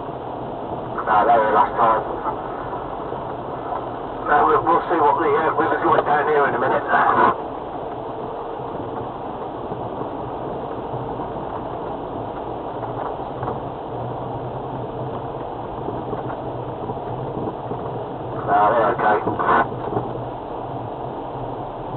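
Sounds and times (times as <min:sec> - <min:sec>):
diesel car engine droning: 0:00.0 - 0:21.9.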